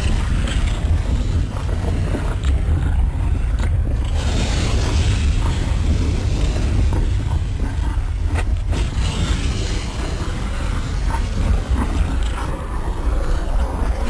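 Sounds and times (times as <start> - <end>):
volcano deep rumble: 0.0 - 14.0
volcano rushing roar: 0.0 - 14.0.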